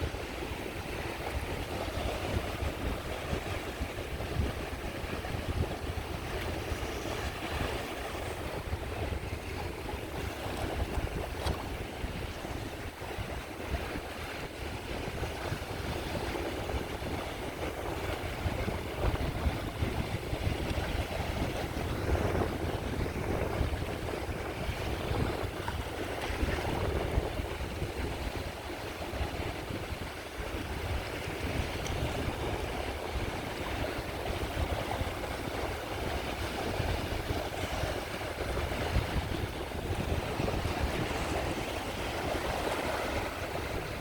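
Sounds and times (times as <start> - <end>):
sea waves washing onto beach: 0.0 - 44.0
wind buffeting microphone: 0.0 - 44.0.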